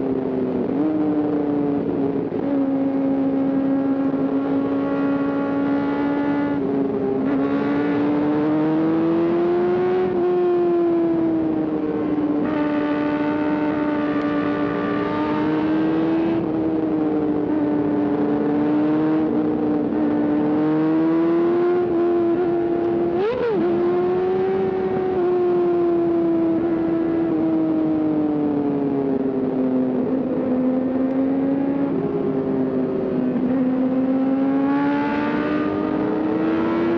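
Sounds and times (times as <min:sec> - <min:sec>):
motorcycle engine at high revs: 0:00.0 - 0:36.9.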